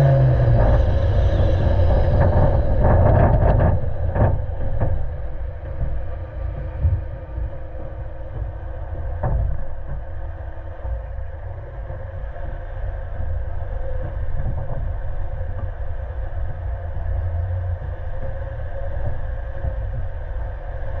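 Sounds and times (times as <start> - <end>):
engine and tyres rumbling: 0.0 - 21.0.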